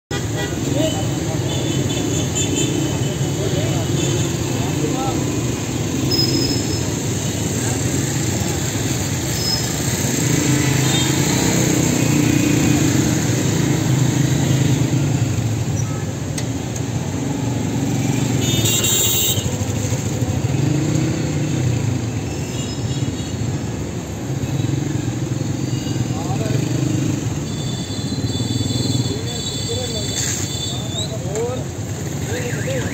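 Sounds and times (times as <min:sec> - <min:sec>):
motorcycles and cars passing: 0:00.1 - 0:32.9.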